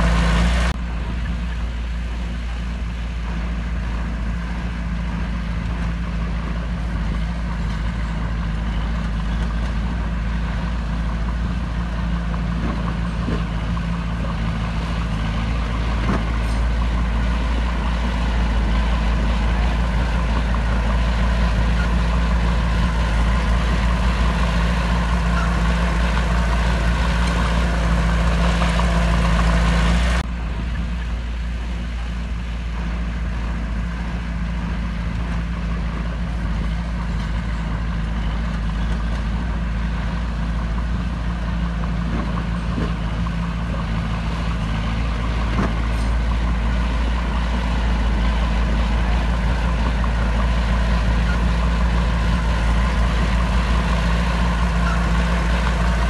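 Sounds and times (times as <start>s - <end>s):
heavy diesel machine engine: 0.0s - 56.0s.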